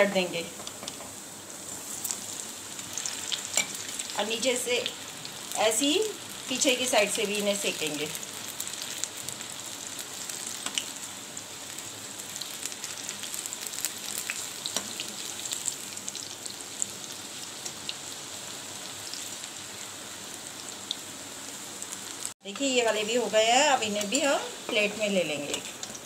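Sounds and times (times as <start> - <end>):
deep frying sizzle with pops: 0.4 - 26.0.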